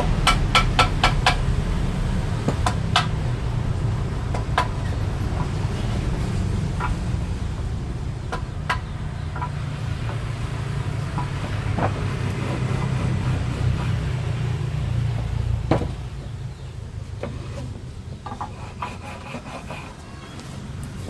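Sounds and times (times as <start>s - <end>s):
low motor rumble: 0.0s - 18.4s.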